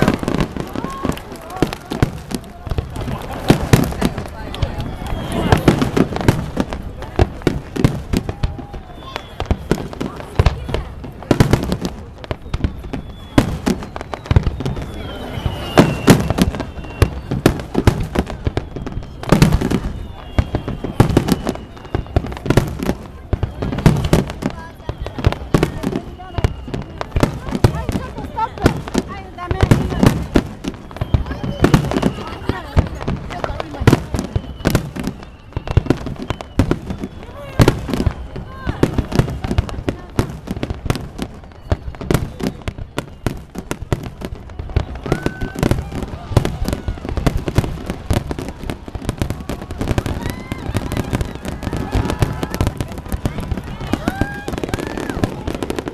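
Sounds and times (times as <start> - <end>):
fireworks banging and crackling: 0.0 - 55.9.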